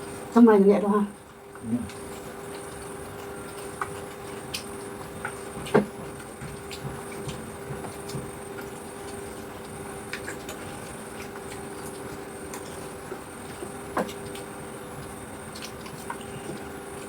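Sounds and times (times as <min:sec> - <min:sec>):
steady low hum: 0:00.0 - 0:17.0
clicks and taps of eating: 0:01.3 - 0:17.0.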